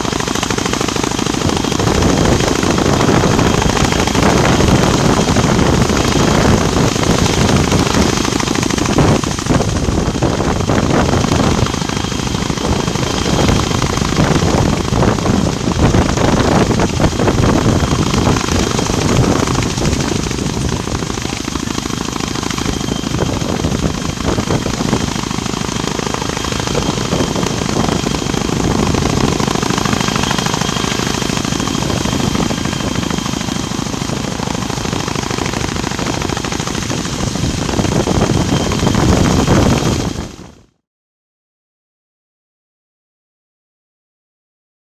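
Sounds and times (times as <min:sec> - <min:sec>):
helicopter rotors chopping: 0:00.0 - 0:40.8.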